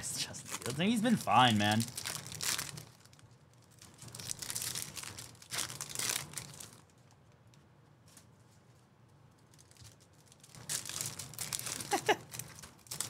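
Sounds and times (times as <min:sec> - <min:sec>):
foil wrappers crinkling and tearing: 0:00.4 - 0:08.6, 0:09.3 - 0:13.0.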